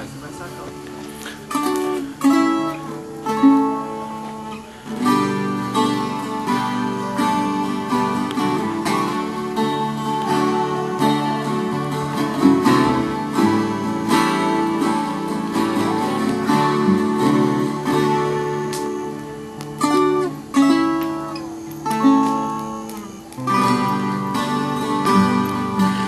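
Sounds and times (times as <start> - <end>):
acoustic viola strummed and plucked: 0.0 - 26.0.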